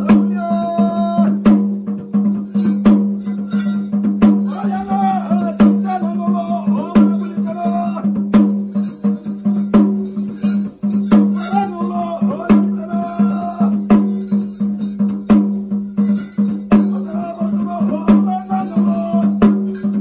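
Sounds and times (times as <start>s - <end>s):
drums and jingling percussion: 0.0s - 20.0s.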